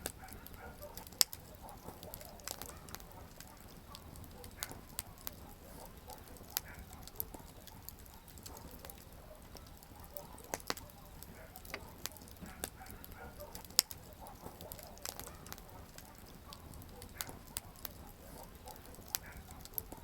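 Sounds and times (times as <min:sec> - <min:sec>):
low hiss of burning: 0:00.0 - 0:20.0
wood fire crackling and popping: 0:00.0 - 0:20.0.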